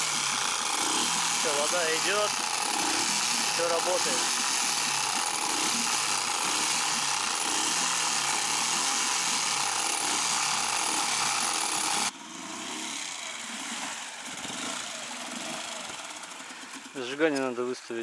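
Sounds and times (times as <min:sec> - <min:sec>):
outboard motor running: 0:00.0 - 0:17.3.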